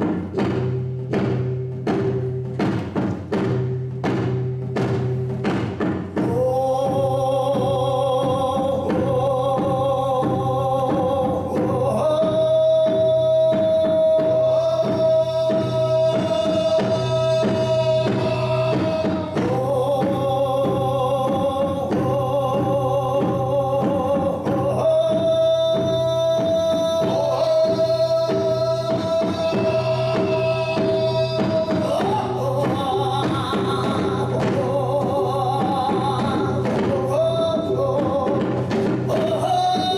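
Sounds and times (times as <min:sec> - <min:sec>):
steady percussion beat: 0:00.0 - 0:39.9.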